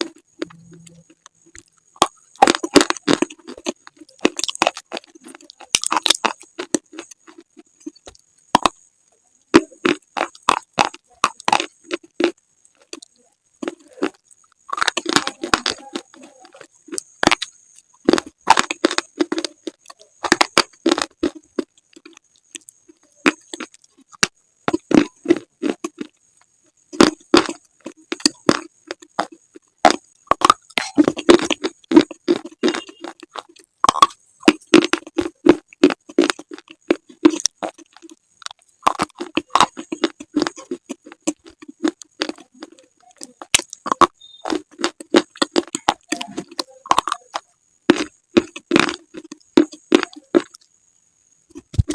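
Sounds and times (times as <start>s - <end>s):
gritty crunching chews: 0.0s - 8.9s, 9.6s - 50.7s, 51.5s - 51.9s.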